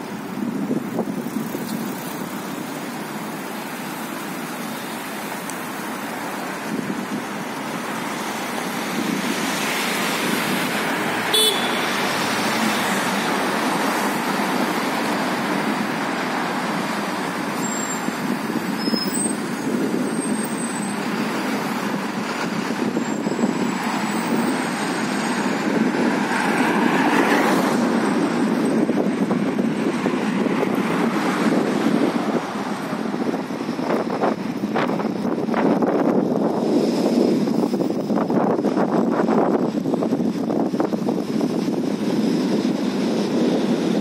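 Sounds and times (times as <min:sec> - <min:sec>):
street traffic noise: 0:00.0 - 0:44.0.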